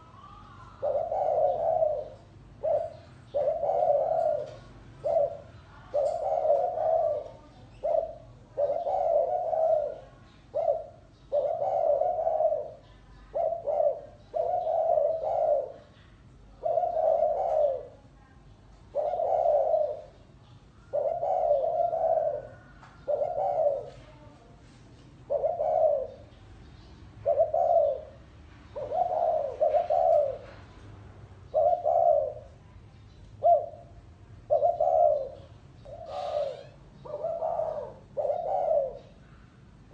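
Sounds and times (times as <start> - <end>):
dove cooing: 0.0 - 30.7, 31.3 - 39.9.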